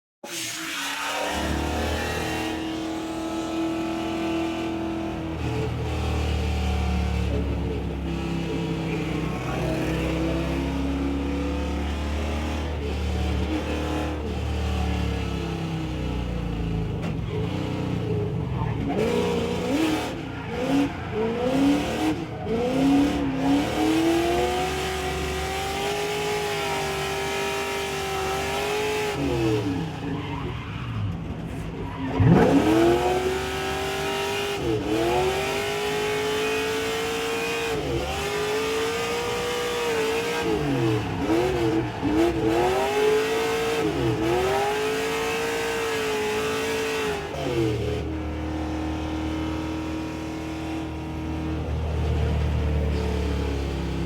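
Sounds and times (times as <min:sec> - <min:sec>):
race car engine revving: 0:00.2 - 0:54.0.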